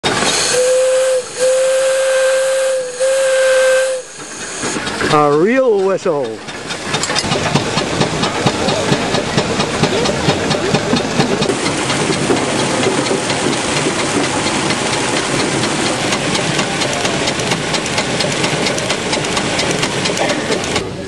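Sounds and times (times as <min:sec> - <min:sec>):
steam hiss: 0:00.0 - 0:05.3, 0:07.5 - 0:21.0
steam engine clattering: 0:00.0 - 0:21.0.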